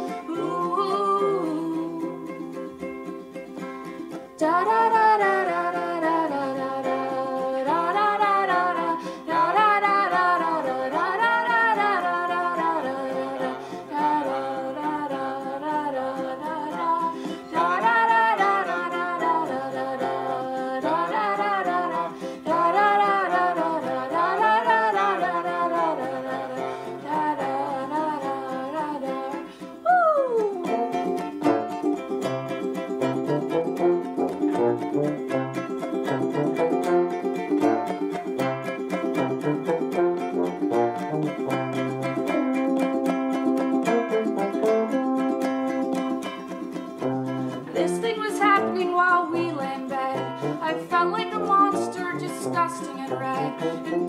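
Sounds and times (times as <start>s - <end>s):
person singing: 0.0s - 3.2s, 3.9s - 54.0s
ukulele: 0.0s - 54.0s.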